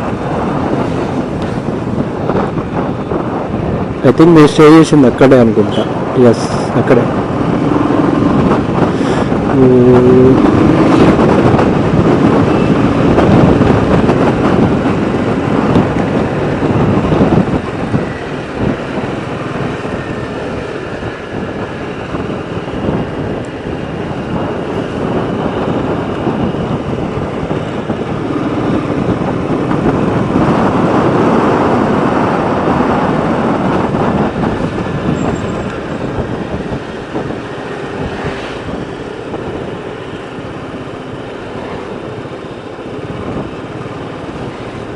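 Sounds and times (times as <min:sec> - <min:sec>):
passing traffic: 0:00.0 - 0:44.9
wind and road noise: 0:00.0 - 0:44.9
motorcycle engine: 0:07.0 - 0:44.9.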